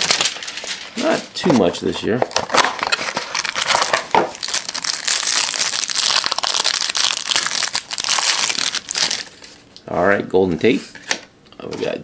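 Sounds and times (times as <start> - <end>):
packaging crinkling and tearing: 0.0 - 9.6.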